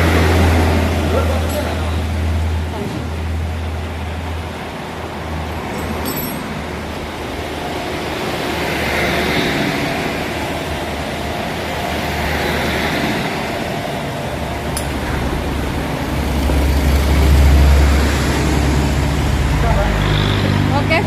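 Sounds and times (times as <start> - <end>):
low wind rumble: 0.0 - 21.0
road and traffic hiss: 0.0 - 21.0.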